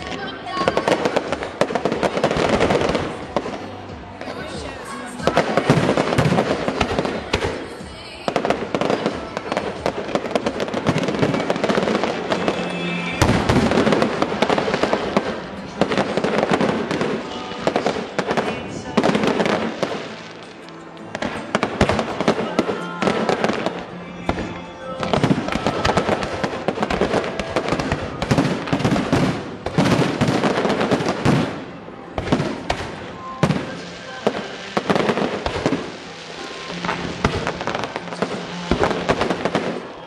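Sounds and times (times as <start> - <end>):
fireworks bursting: 0.0 - 40.0
fireworks crackling: 0.0 - 40.0.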